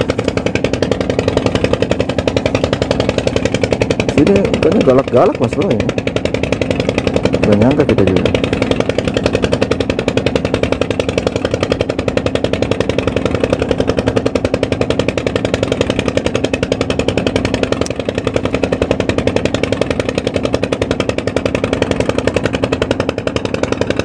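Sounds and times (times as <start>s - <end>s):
small engine puttering: 0.0s - 24.0s.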